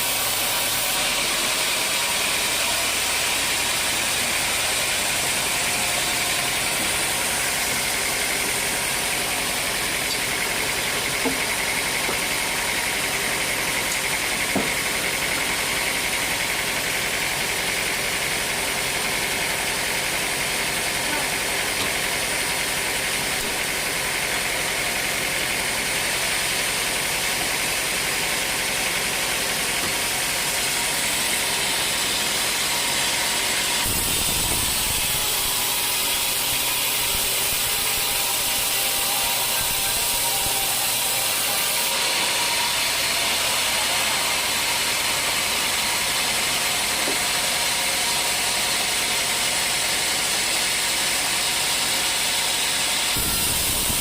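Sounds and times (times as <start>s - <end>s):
sawmill cutting wood: 0.0s - 54.0s.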